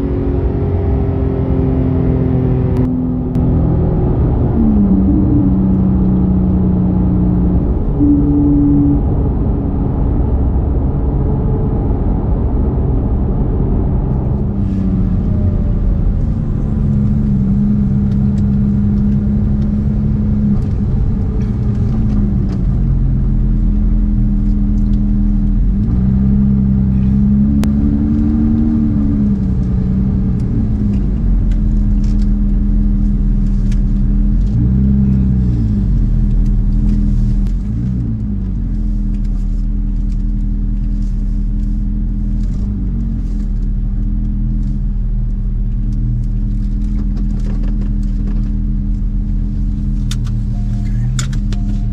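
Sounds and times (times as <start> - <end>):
car engine cruising: 0.0 - 51.9
road and tyre rumble: 0.0 - 51.9.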